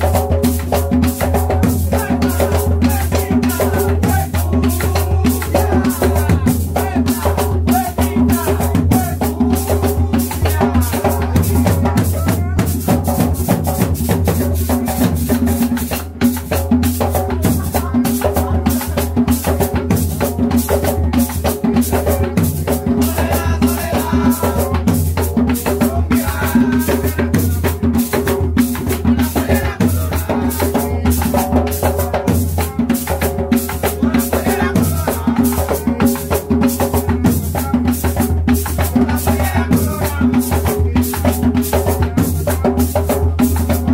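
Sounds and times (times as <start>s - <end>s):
hand drums: 0.0s - 43.9s
maracas: 0.0s - 43.9s.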